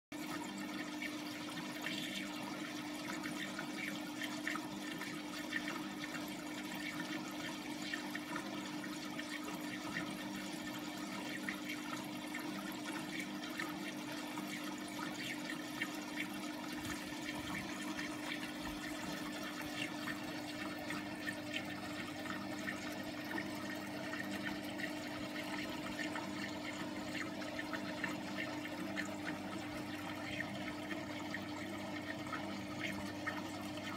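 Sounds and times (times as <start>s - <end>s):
filter motor hum: 0.1s - 33.9s
water trickling and bubbling: 0.1s - 33.9s.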